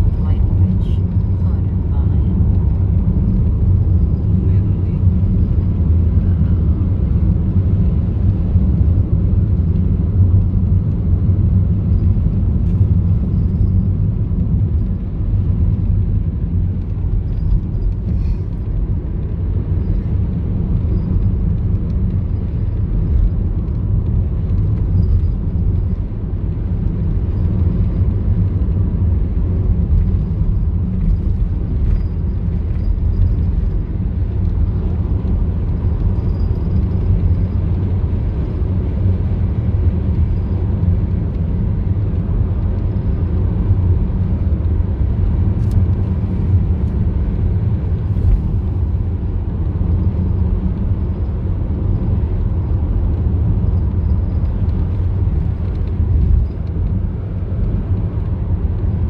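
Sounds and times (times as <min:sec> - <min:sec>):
car tyres and engine rumble: 0:00.0 - 0:59.0.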